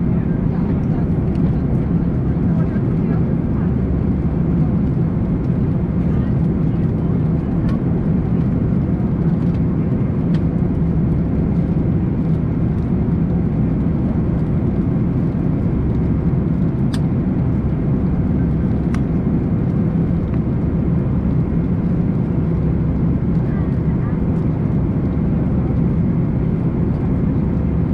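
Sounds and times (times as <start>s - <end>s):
airplane cabin engine roar: 0.0s - 27.9s.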